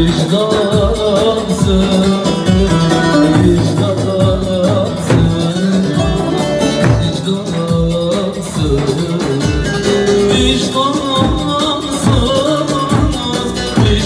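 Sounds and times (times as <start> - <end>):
backing beat: 0.0 - 14.0
low drum beats: 0.0 - 14.0.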